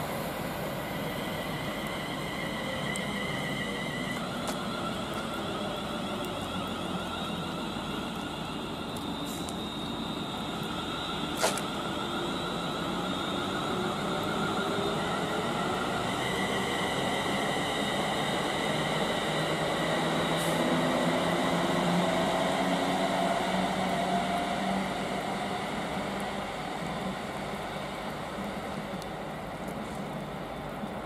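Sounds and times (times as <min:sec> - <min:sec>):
train running hiss: 0:00.0 - 0:30.6.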